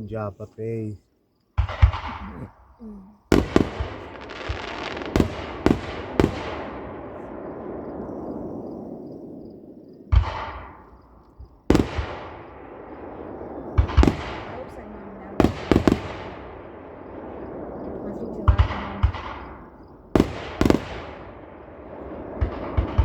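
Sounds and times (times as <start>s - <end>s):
firework booms: 1.6s - 23.0s
firework crackle and echo: 1.6s - 23.0s.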